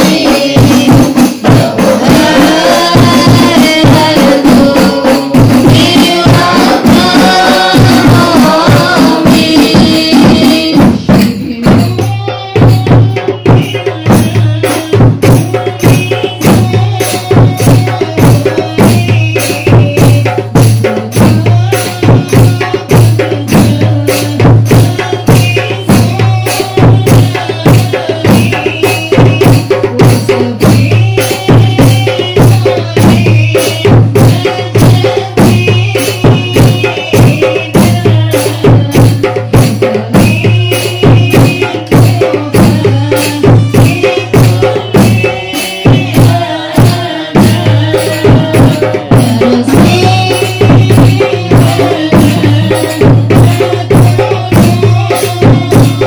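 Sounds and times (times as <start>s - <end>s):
frame drums beating: 0.0s - 56.0s
women singing in unison: 0.0s - 56.0s.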